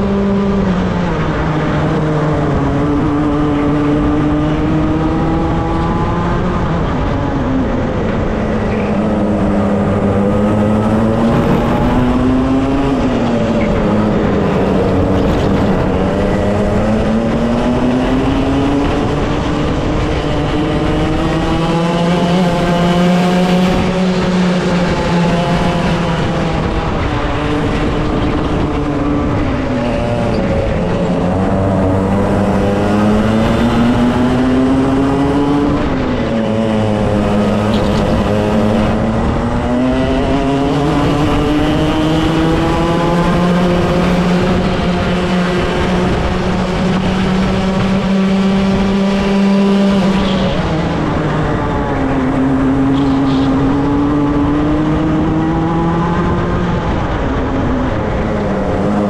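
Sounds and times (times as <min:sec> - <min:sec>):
two-stroke kart engine racing: 0:00.0 - 0:59.0.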